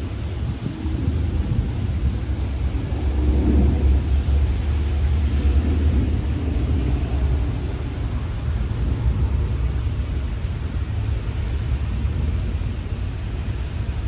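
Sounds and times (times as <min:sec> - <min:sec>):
rolling thunder: 0:00.0 - 0:14.0
steady rain: 0:00.0 - 0:14.0.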